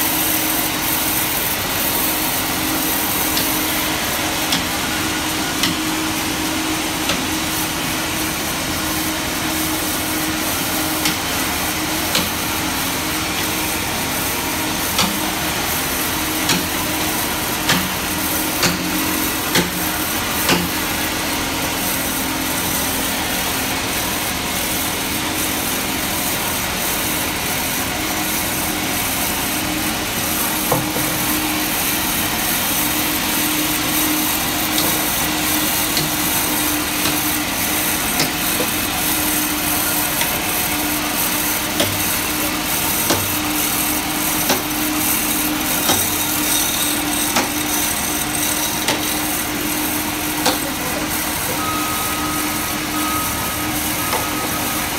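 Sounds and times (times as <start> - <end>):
sawmill machinery hum: 0.0 - 54.9.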